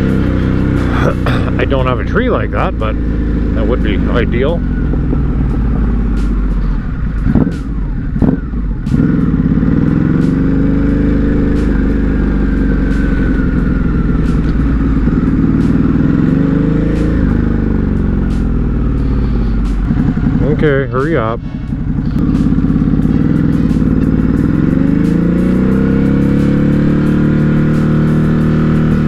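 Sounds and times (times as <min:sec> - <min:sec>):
motorcycle engine under way: 0:00.0 - 0:29.0.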